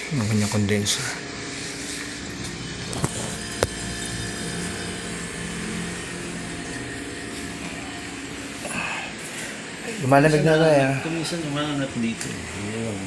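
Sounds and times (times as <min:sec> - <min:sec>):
refrigerator compressor humming: 0:00.0 - 0:13.0.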